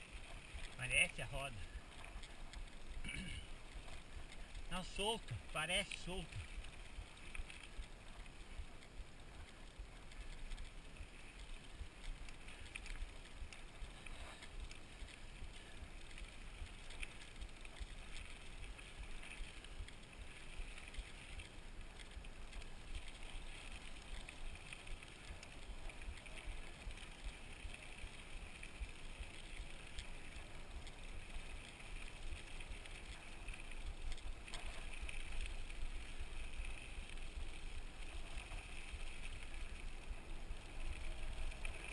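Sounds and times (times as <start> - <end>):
bike tyre rumble on dirt: 0.0 - 41.9.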